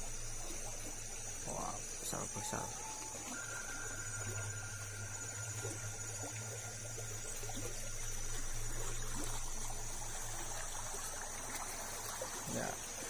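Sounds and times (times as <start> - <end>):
high insect trill: 0.0 - 13.0
low steady hum: 0.0 - 13.0
water splashing over a weir: 0.0 - 13.0.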